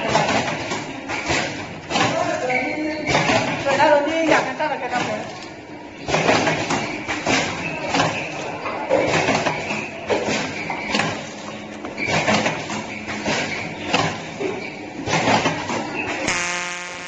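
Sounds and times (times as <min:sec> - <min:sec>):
packing machine humming: 0:00.0 - 0:17.0.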